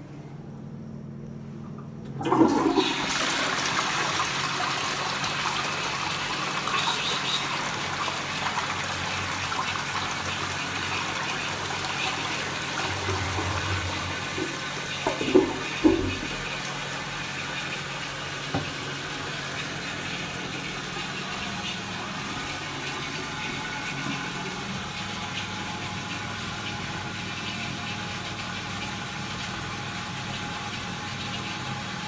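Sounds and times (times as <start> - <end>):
toilet water swirling in pan: 2.2 - 32.0.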